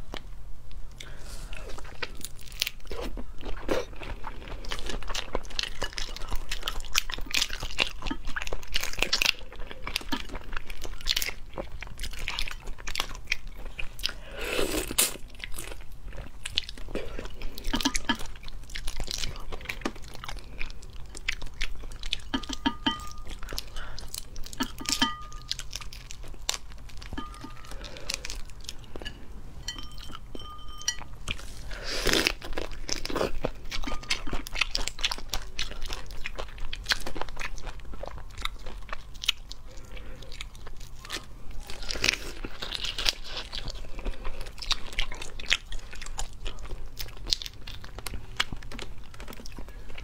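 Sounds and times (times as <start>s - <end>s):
wet chewing: 1.0s - 50.0s.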